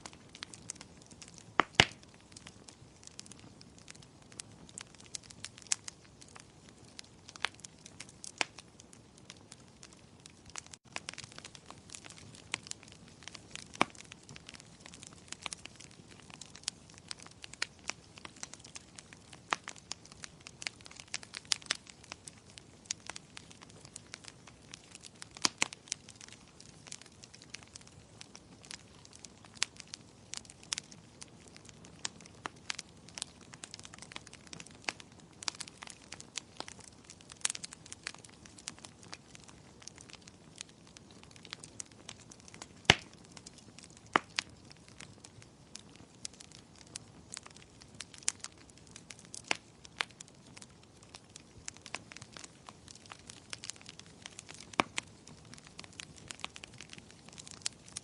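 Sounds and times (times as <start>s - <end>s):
soft steady hiss: 0.0s - 58.0s
wood fire crackling and popping: 0.0s - 58.0s.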